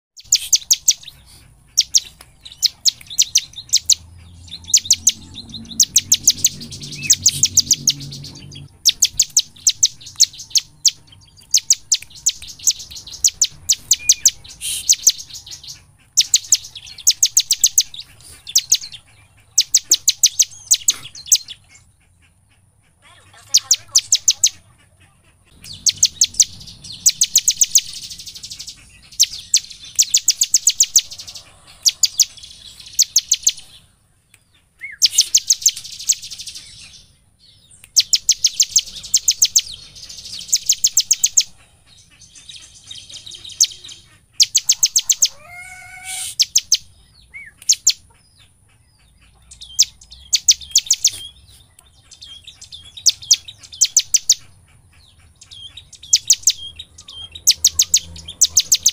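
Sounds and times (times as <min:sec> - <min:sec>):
bird chattering song: 0:00.2 - 0:58.9.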